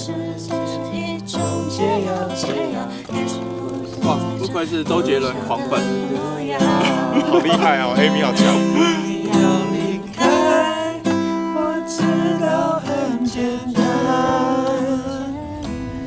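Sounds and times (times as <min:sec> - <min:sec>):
acoustic guitar: 0:00.0 - 0:16.0
person singing: 0:00.0 - 0:16.0.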